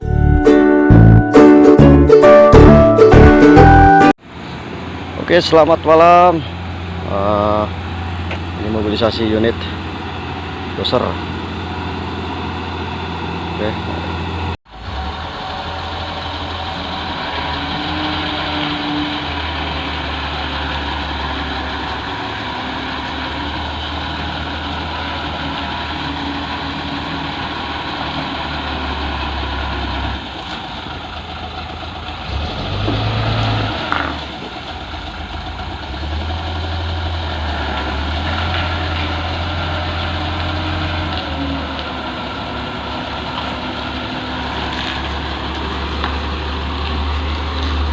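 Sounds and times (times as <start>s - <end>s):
diesel engine idling: 0.9s - 47.9s.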